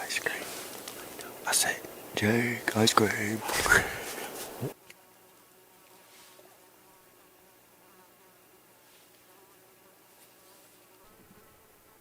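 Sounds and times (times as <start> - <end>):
faint insect buzz: 0.0 - 12.0.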